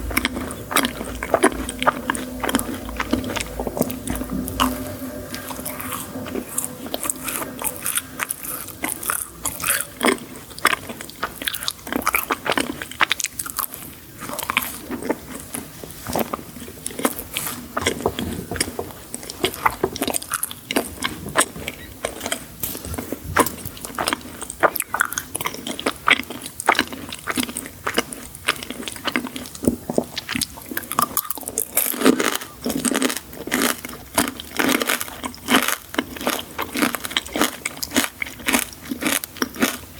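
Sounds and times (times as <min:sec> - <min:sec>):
crunchy bites and chewing: 0:06.6 - 0:39.9.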